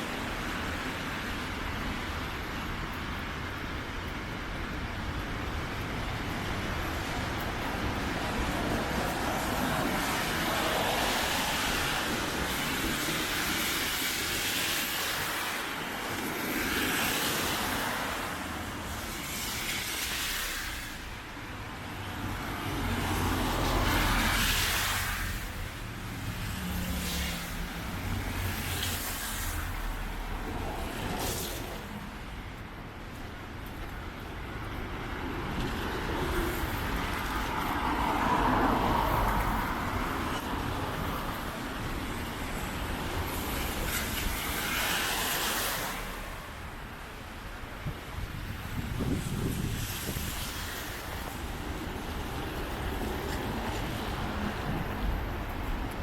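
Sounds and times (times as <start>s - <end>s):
cars passing on wet road: 0.0s - 56.0s.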